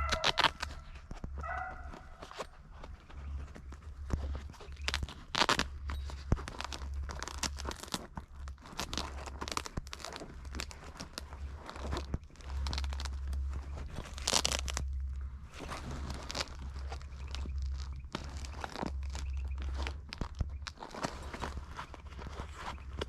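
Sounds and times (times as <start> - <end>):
footsteps crunching dry leaves: 0.0 - 23.0
twigs crackling and scraping: 0.0 - 23.0.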